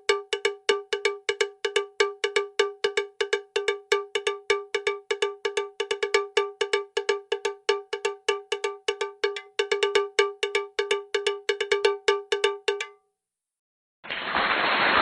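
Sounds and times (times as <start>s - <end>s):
metallic bell-like percussion loop: 0.0s - 13.0s.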